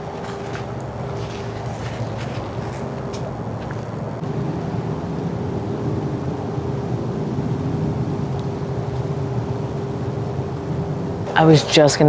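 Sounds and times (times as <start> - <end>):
constant hum: 0.0 - 12.0
distant traffic drone: 0.0 - 12.0.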